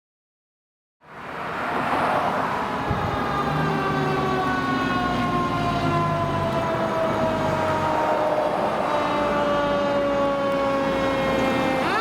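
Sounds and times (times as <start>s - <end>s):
fire engine siren: 1.8s - 12.0s
truck rumble: 1.8s - 12.0s.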